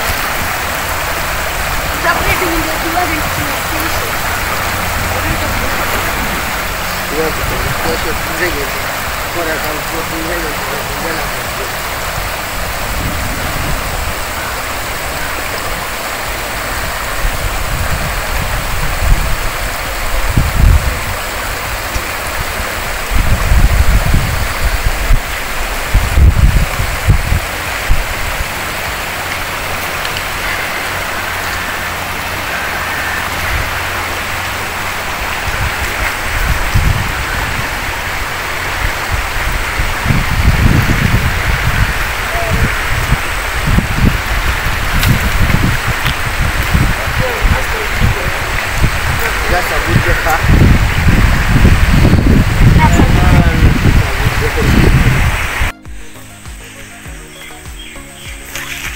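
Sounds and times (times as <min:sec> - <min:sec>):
low microphone rumble: 0:00.0 - 0:56.0
river rushing over gravel: 0:00.0 - 0:58.9.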